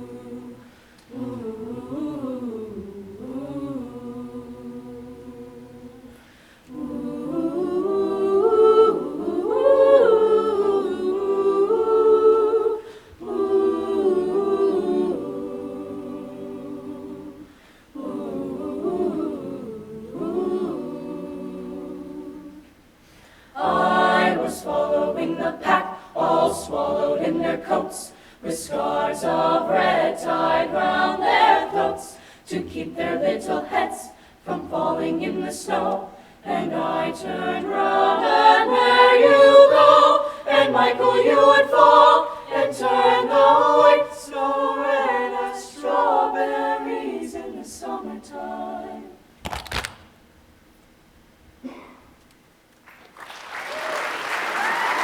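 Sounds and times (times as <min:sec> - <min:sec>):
choir singing a cappella: 0:00.0 - 0:49.4.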